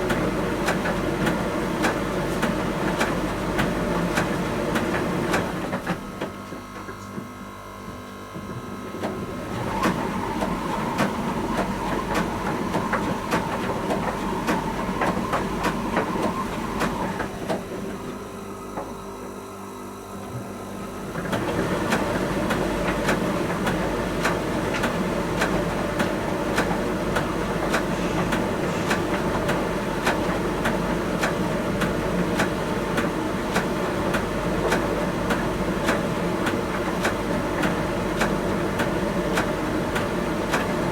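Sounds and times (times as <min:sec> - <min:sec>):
tumble dryer running: 0:00.0 - 0:07.5, 0:08.3 - 0:19.0, 0:20.2 - 0:40.9.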